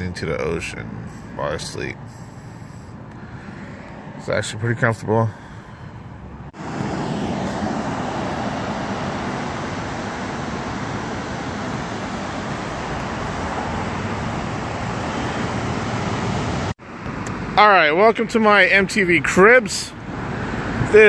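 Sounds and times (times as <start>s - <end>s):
rushing outdoor noise: 0.0s - 21.0s.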